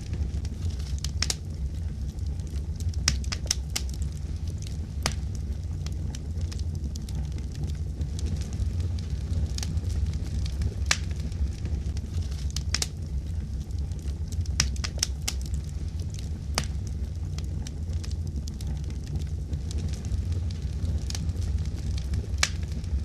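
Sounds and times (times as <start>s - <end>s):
fire crackling rumble: 0.0s - 23.0s
sharp popping of fire: 0.0s - 23.0s.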